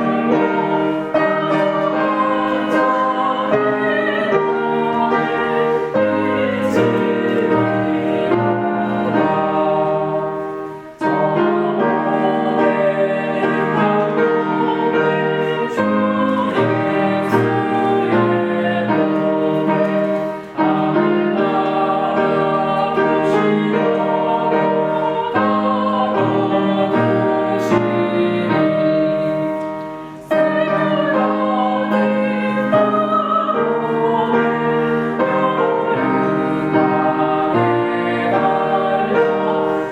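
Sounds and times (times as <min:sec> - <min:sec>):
hymn singing: 0:00.0 - 0:39.9
piano accompaniment: 0:00.0 - 0:39.9.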